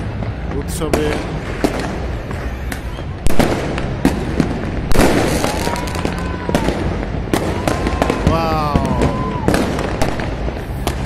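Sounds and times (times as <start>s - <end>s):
continuous din: 0.0s - 11.0s
fireworks popping and banging: 0.0s - 11.0s
loud firework blasts: 0.0s - 11.0s.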